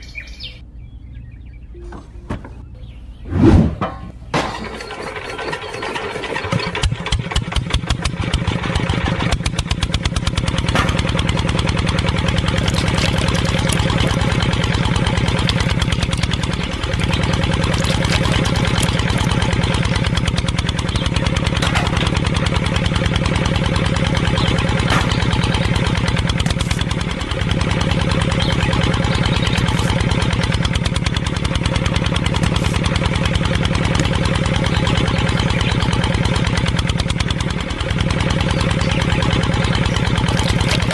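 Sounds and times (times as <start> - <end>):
tractor engine starting and idling: 3.8 - 40.9.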